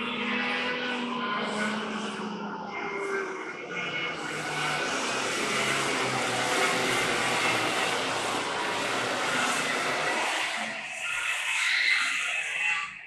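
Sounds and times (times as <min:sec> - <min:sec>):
kart engine running at speed: 0:00.0 - 0:13.0.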